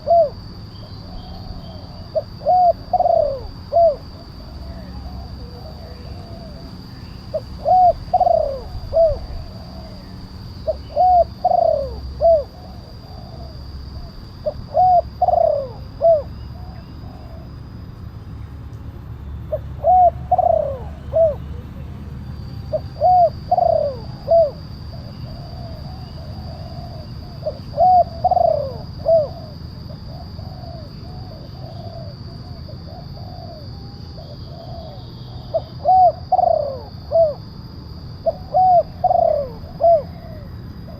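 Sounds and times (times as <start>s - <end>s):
dove cooing: 0.0s - 17.8s, 19.5s - 40.9s.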